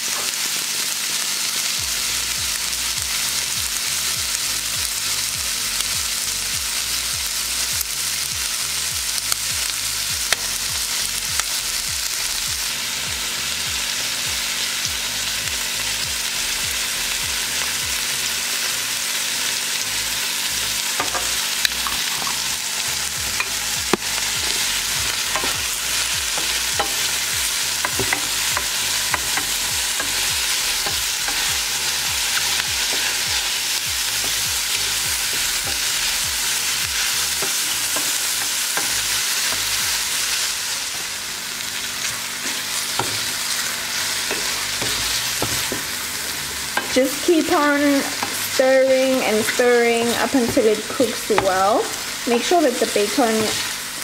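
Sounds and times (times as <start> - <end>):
ticks and pops of frying: 0.0 - 12.6, 13.6 - 54.0
food sizzling in a pan: 0.0 - 54.0.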